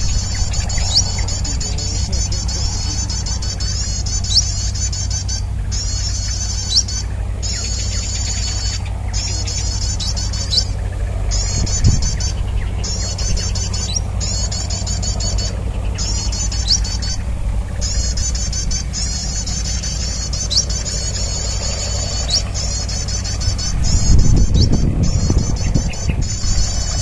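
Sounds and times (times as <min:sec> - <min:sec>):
high repeated bird chirps: 0:00.0 - 0:27.0
steady low hum: 0:00.0 - 0:27.0.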